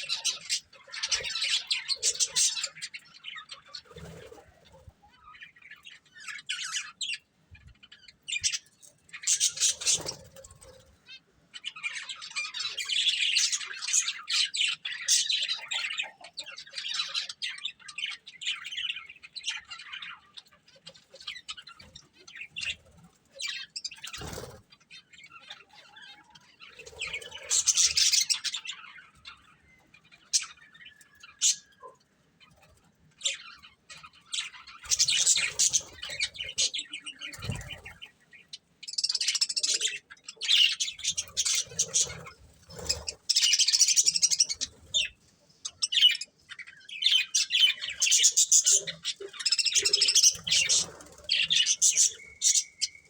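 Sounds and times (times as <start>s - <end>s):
budgerigars chirping: 0.0s - 7.2s, 7.9s - 53.0s.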